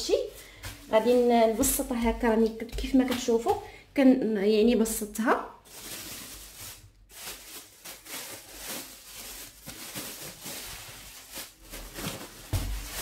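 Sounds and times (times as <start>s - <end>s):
plastic bag rustling: 0.0s - 3.6s, 5.6s - 13.0s.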